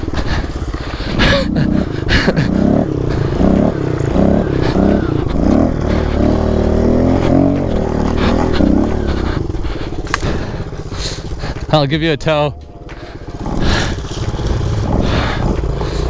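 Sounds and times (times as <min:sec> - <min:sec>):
small motorbike engine revving: 0:00.0 - 0:11.7, 0:13.0 - 0:16.0.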